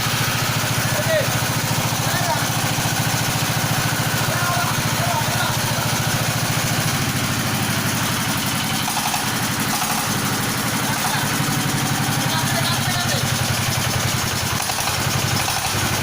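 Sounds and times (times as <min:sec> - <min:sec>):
machine engine running pulsing: 0:00.0 - 0:16.0.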